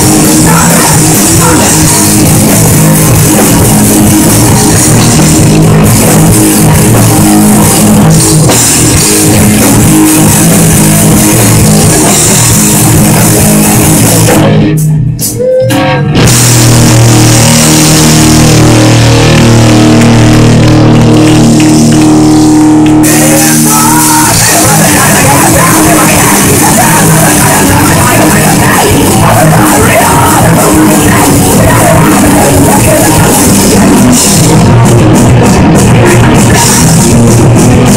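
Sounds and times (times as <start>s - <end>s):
held ringing guitar chords: 0.0s - 37.9s
punk rock band playing: 0.0s - 37.9s.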